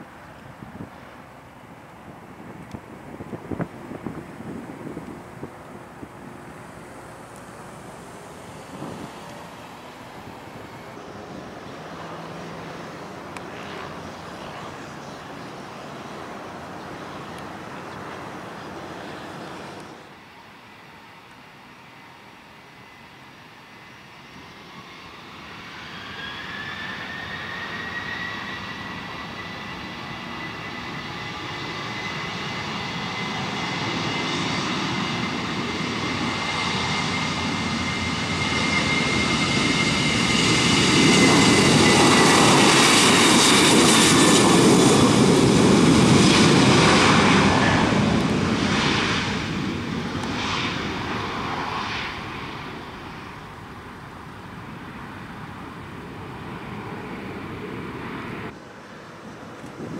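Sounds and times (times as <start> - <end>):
jet engines at takeoff: 0.0 - 59.9.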